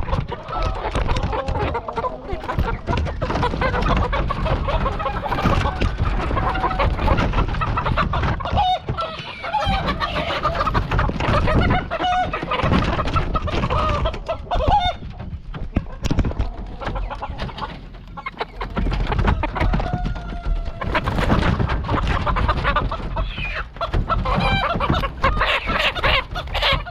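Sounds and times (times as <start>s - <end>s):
chickens clucking and squawking: 0.0s - 26.9s
knocks and clatter: 0.0s - 26.9s.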